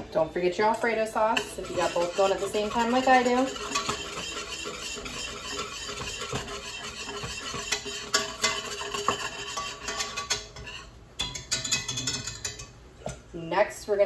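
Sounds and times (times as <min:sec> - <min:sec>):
whisk scraping metal pot: 0:00.8 - 0:12.8.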